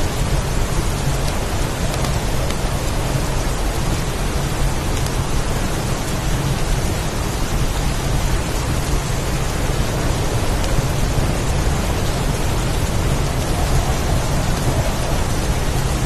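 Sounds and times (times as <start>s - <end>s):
rain and wind hiss: 0.0s - 16.0s.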